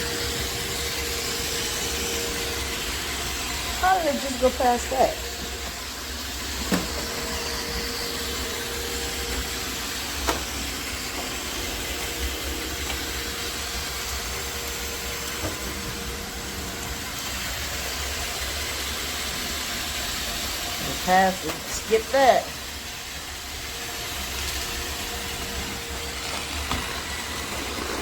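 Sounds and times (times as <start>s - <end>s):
robot vacuum whirring: 0.0s - 28.0s.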